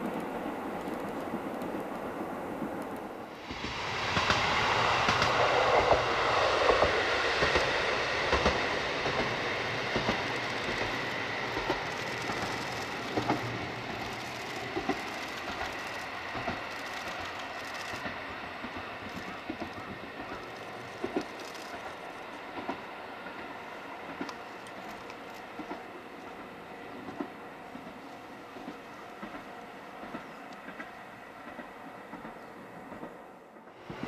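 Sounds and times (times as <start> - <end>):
train wheels clicking over rail joints: 0.0 - 34.0.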